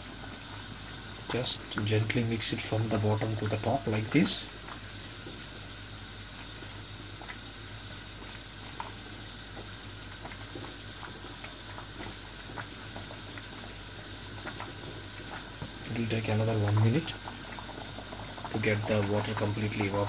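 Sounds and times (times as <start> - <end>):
pot boiling with bubbling hiss: 0.0 - 20.0.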